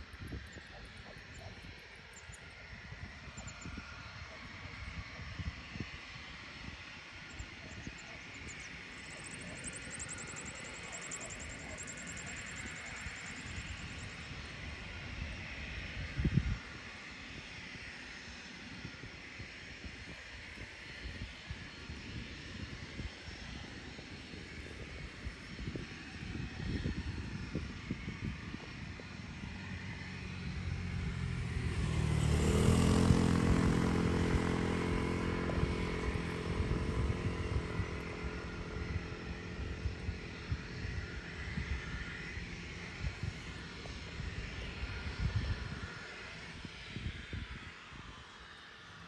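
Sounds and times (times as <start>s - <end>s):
wind buffeting microphone: 0.0s - 48.2s
jet engines spooling up: 0.0s - 49.0s.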